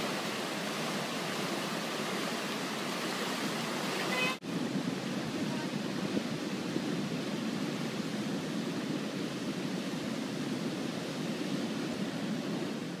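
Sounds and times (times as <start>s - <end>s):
water rushing over weir: 0.0s - 13.0s.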